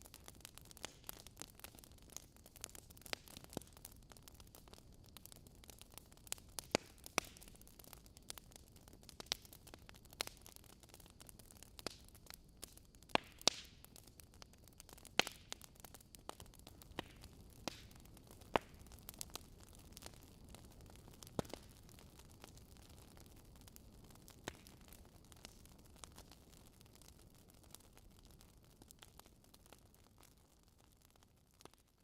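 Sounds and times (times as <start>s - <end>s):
fire hissing softly: 0.0s - 32.0s
logs crackling and popping: 0.0s - 32.0s.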